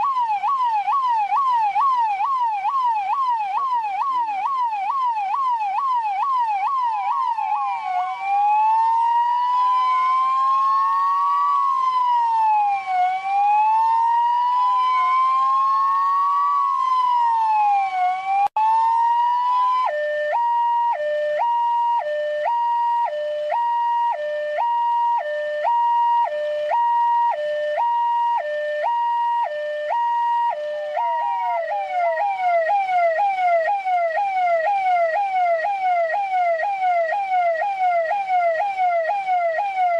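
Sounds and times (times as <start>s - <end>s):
police siren: 0.0s - 39.9s.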